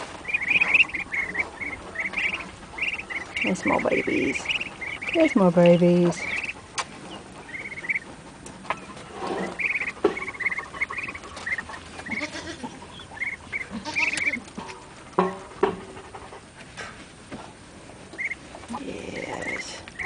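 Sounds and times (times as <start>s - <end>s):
ducklings peeping: 0.0s - 16.4s, 17.5s - 20.0s.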